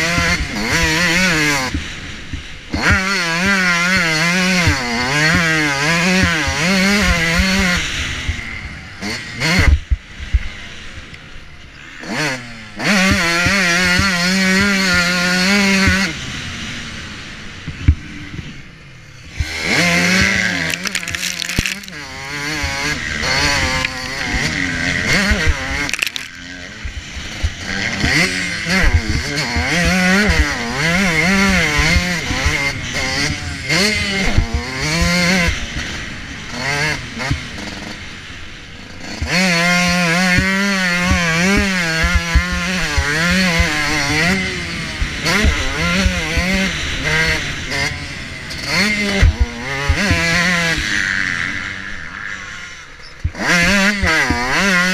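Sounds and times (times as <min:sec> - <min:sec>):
motocross bike engine revving: 0:00.0 - 0:10.8, 0:11.8 - 0:18.3, 0:19.1 - 0:54.9.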